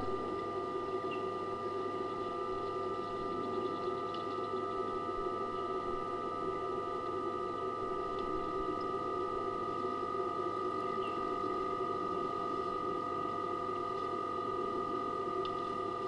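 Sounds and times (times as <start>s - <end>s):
steady tonal hum: 0.0s - 16.0s.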